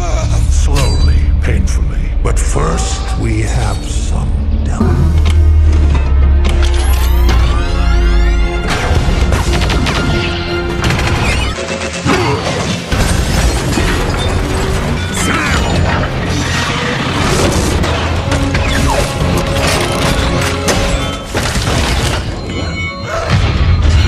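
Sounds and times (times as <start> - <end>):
dramatic orchestral music: 0.0 - 24.0.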